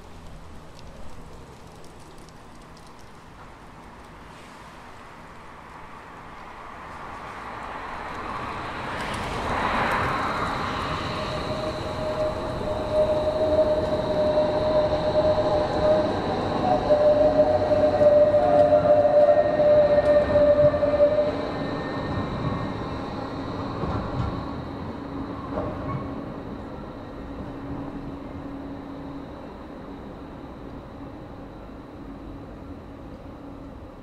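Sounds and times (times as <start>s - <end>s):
tram passing on rails: 0.0s - 34.0s.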